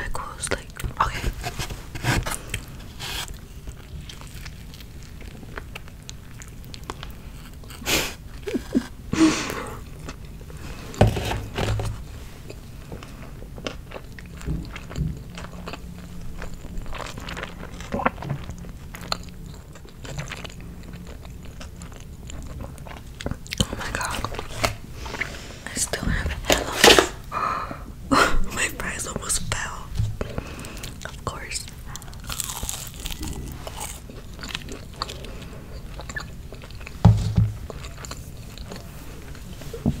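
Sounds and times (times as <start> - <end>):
person chewing and crunching food: 0.5 - 25.6, 29.6 - 39.8.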